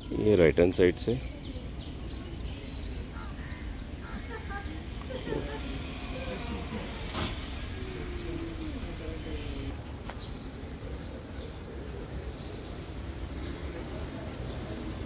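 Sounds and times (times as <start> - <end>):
street rumble: 0.0 - 15.0.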